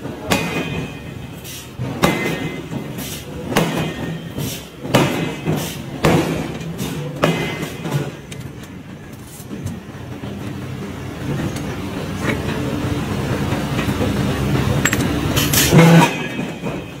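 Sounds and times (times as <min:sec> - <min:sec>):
forging press humming: 0:00.0 - 0:17.0.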